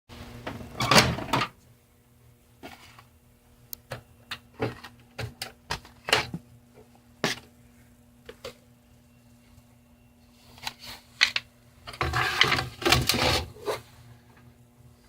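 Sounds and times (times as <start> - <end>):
faint steady hum: 0.1 - 15.0.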